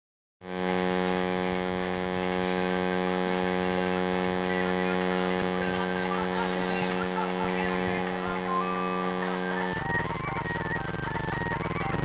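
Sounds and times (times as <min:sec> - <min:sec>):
electrical hum: 0:00.5 - 0:12.0.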